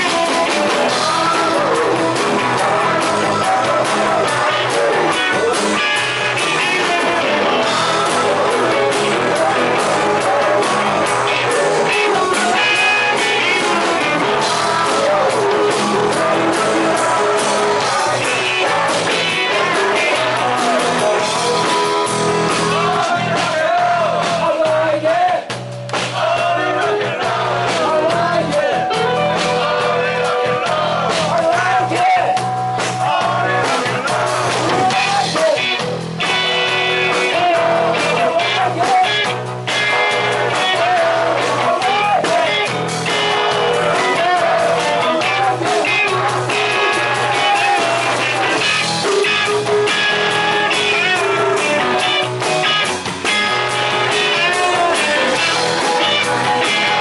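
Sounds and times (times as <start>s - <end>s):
wavering lead vocal: 0.0s - 25.5s, 26.1s - 57.0s
drums: 0.0s - 57.0s
electric guitars: 0.0s - 57.0s
rock and roll song: 0.0s - 57.0s.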